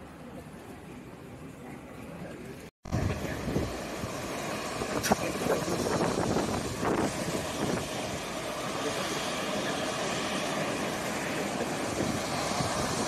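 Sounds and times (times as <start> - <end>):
jet aircraft rumble and hiss: 0.0 - 13.0.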